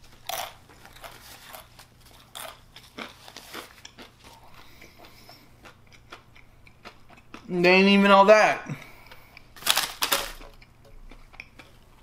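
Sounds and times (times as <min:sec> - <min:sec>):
chewing crunchy food: 0:00.0 - 0:07.5, 0:08.9 - 0:12.0.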